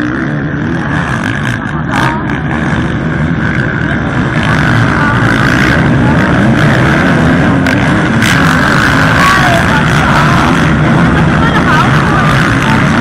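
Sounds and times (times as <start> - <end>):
motocross bikes running: 0.0 - 13.0.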